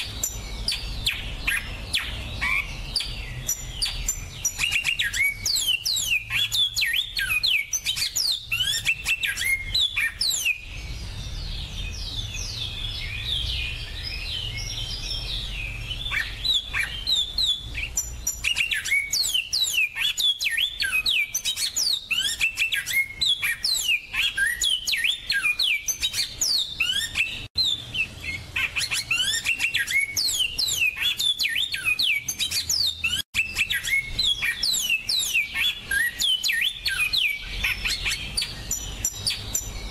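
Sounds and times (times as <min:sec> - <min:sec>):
finch twittering: 0:00.0 - 0:39.9.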